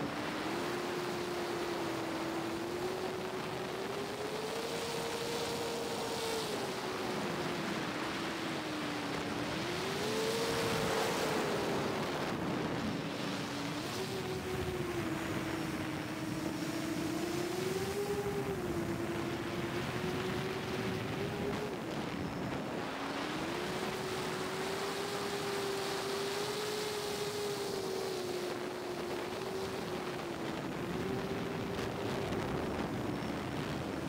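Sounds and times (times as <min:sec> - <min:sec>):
drone motors whining: 0:00.0 - 0:34.0
rushing wind noise: 0:00.0 - 0:34.0.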